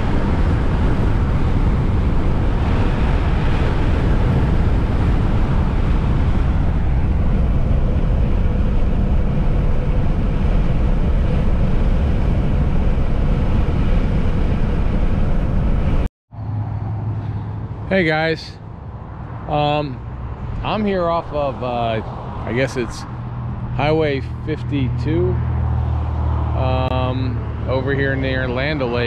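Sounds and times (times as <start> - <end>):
wind rush: 0.0 - 16.1, 19.0 - 26.6
road noise inside vehicle: 0.0 - 29.0.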